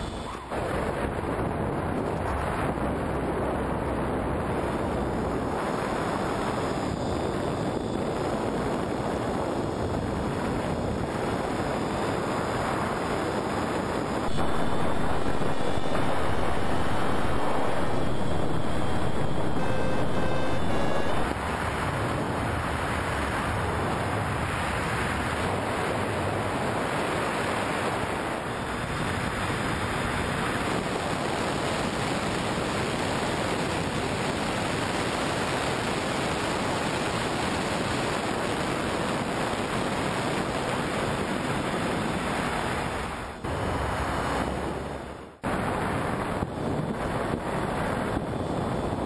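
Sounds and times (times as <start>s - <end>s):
wind rushing over camera: 0.0s - 49.0s.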